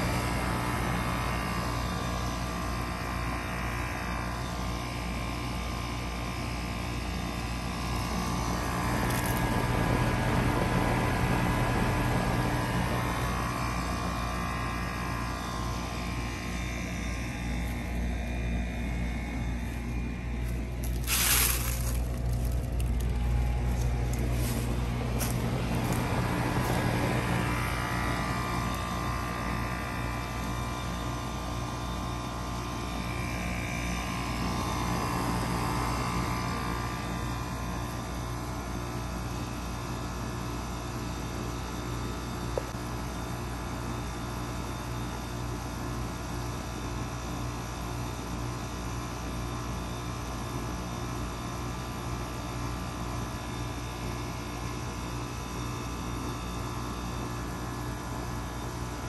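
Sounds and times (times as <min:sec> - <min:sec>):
heat pump humming: 0:00.0 - 0:59.0.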